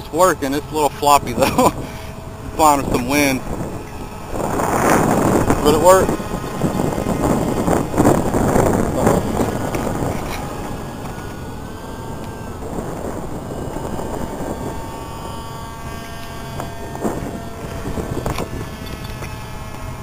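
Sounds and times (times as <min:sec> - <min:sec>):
electric motor and propeller whining: 0:00.0 - 0:20.0
wind rumbling on microphone: 0:00.0 - 0:20.0.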